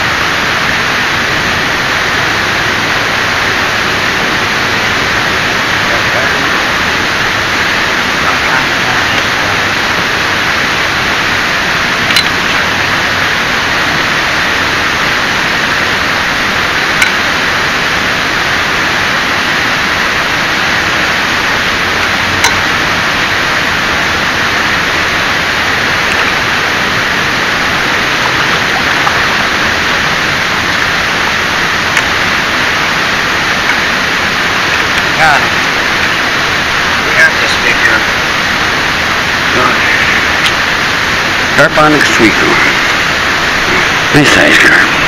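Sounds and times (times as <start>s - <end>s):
steady hiss: 0.0s - 45.0s.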